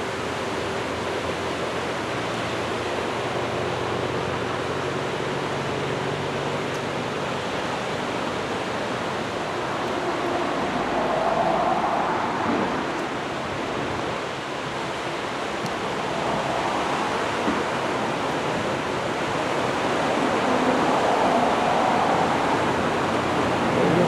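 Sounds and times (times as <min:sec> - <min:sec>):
surf roaring on beach: 0:00.0 - 0:24.0.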